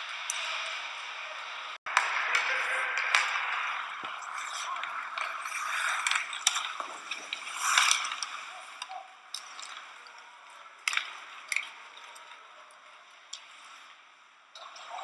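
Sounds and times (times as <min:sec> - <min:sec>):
hockey sticks and puck clacking: 0:00.0 - 0:14.0
skates scraping ice: 0:00.0 - 0:15.0.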